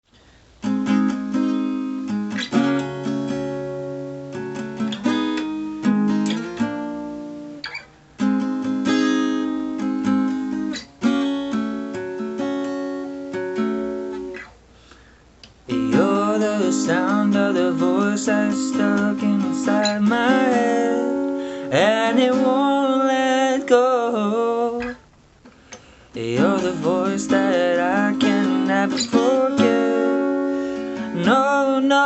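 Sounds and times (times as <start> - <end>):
acoustic guitar strumming chords: 0.6 - 32.0.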